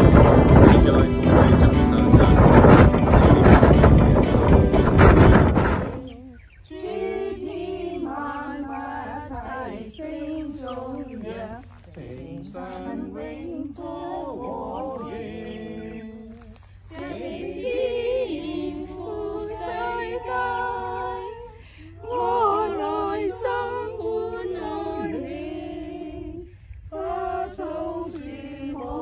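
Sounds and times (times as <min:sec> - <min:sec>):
group singing a hymn: 0:00.0 - 0:29.0.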